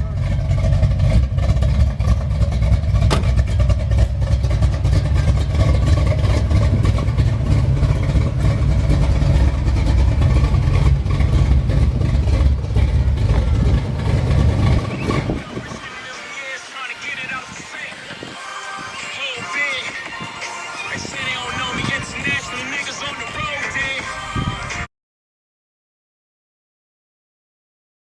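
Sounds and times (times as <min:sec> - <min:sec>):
car engine rumbling: 0:00.0 - 0:18.4, 0:19.2 - 0:24.8.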